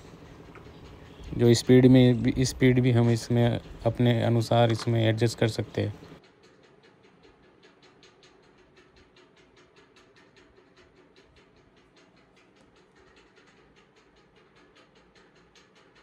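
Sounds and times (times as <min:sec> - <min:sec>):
faint rapid ticking: 0:00.0 - 0:16.0.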